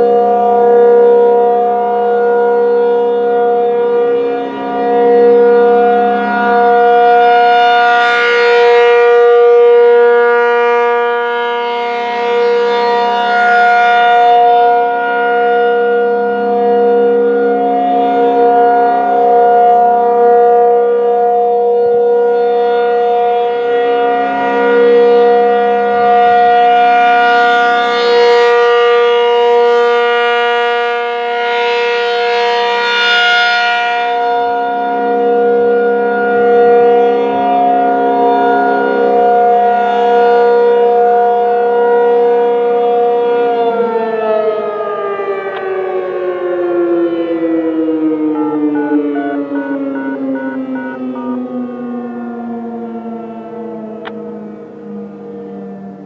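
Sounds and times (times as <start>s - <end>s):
rotating warning siren: 0.0s - 56.0s.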